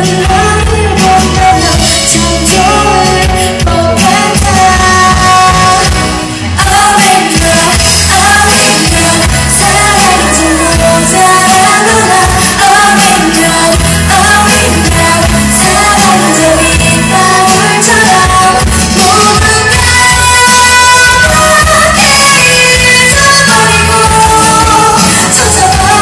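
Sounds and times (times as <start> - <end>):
live band playing pop: 0.0 - 26.0
woman singing into microphone: 0.0 - 26.0.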